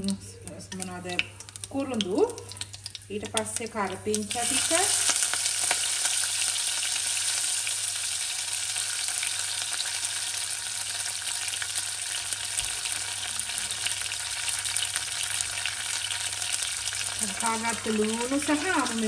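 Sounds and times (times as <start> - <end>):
spices sizzling in hot oil: 0.0 - 19.0.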